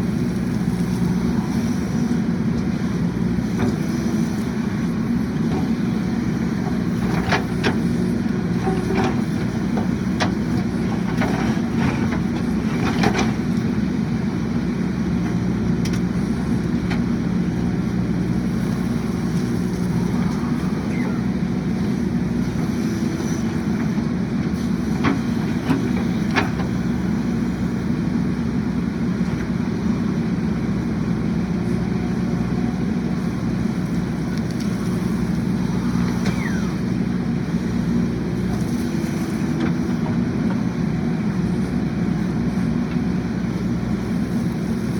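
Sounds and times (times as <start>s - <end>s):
diesel engine running steadily: 0.0s - 44.9s.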